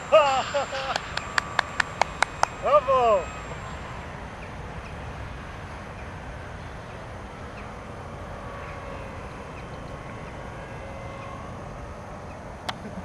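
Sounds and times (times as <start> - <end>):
distant electric motor whine: 0.0 - 13.0.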